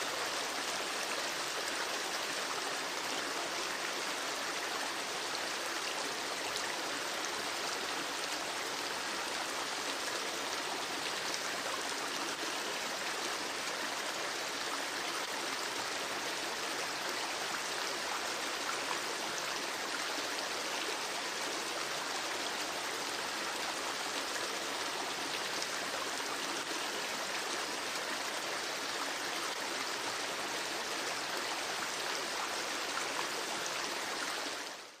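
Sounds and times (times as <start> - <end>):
stream rushing and trickling: 0.0 - 35.0.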